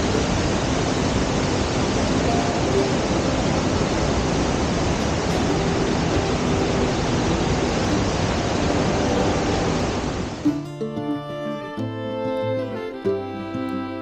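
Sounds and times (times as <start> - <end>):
rocky stream: 0.0 - 14.0
string instrument music: 0.0 - 14.0
waterfall rushing: 0.0 - 14.0.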